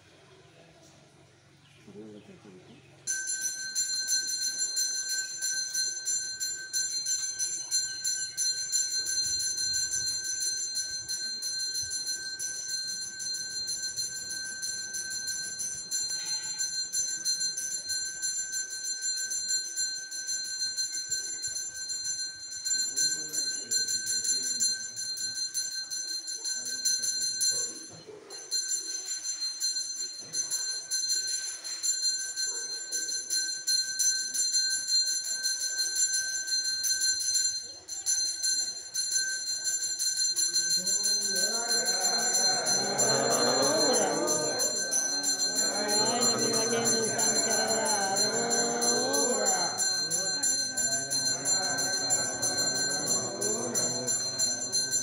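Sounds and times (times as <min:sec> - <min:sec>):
brass hand bell ringing rapidly: 0:03.1 - 0:55.0.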